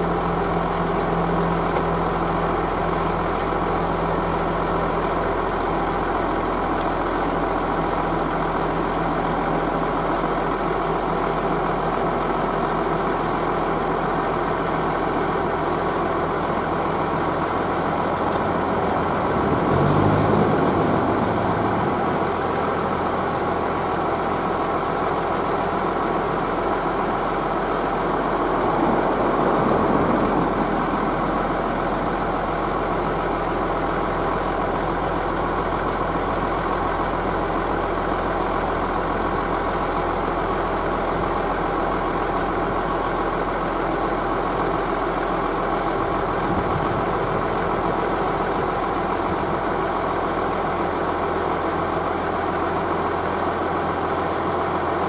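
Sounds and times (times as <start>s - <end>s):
diesel engines idling: 0.0s - 55.0s.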